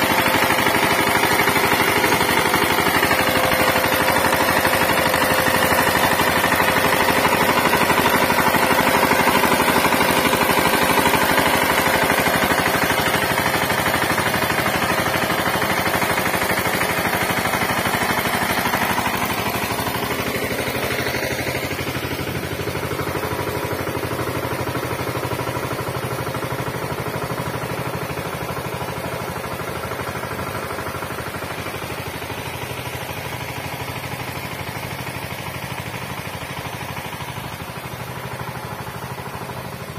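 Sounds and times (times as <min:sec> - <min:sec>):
diesel tiller engine knocking: 0:00.0 - 0:39.9.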